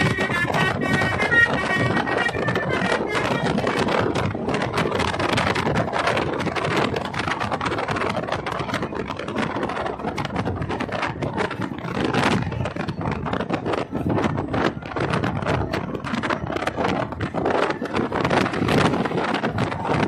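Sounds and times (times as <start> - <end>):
vehicle rattling and knocking: 0.0 - 20.0.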